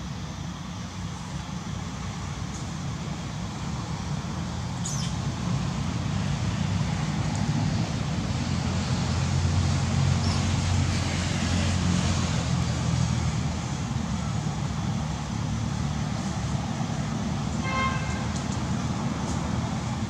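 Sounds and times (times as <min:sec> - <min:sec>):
outdoor hiss: 0:00.0 - 0:20.0
road traffic rumble: 0:00.0 - 0:20.0.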